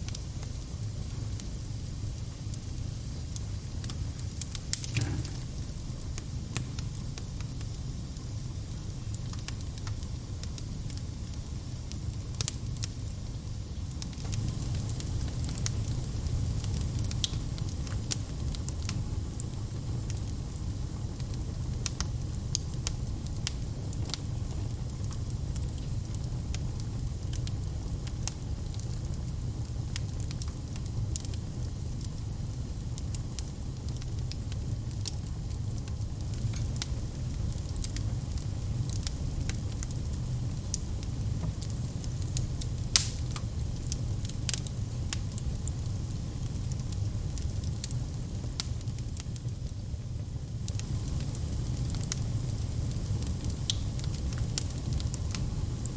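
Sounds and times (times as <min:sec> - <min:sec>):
fire crackling and popping: 0:00.0 - 0:55.9
fire rumbling: 0:00.0 - 0:55.9.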